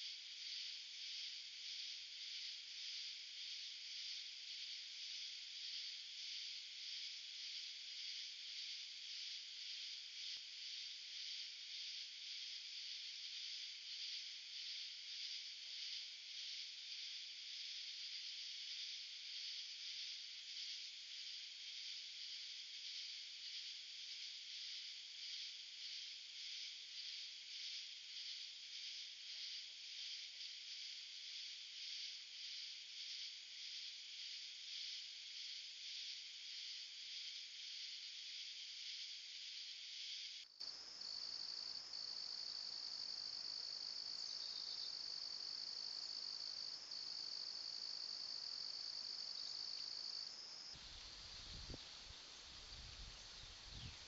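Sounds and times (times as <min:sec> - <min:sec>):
high-pitched insect trill: 0:00.0 - 0:54.0
night insects chirping: 0:00.0 - 0:54.0.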